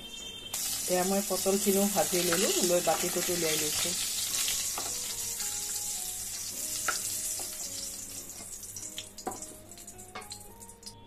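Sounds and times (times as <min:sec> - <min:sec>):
hot oil sizzling: 0:00.4 - 0:11.0.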